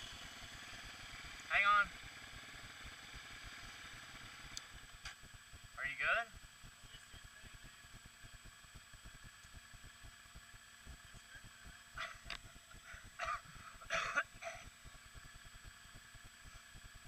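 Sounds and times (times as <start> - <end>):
quad bike engines idling: 0.0 - 17.0.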